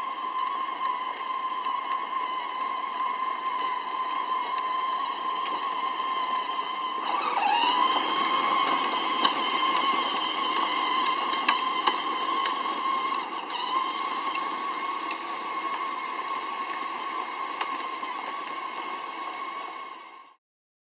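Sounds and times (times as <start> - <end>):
electric motor and gearbox whine: 0.0 - 20.4.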